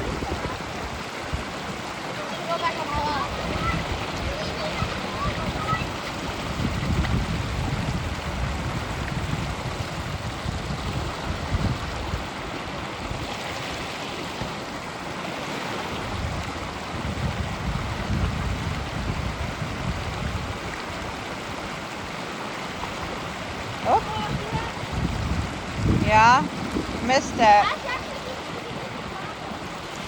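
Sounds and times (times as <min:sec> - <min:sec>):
creek water running: 0:00.0 - 0:30.0
wind buffeting microphone: 0:00.0 - 0:30.0.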